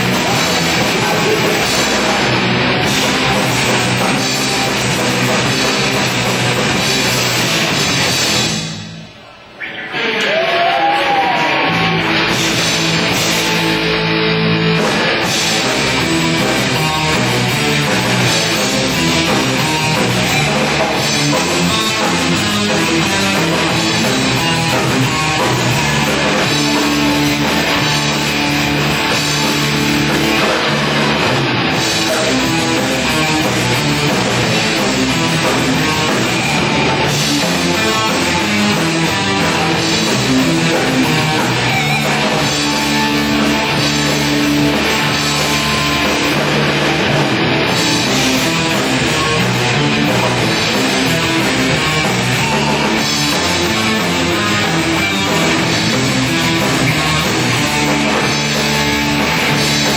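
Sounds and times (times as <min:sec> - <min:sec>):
live rock band playing: 0:00.0 - 0:09.2, 0:09.9 - 0:59.9.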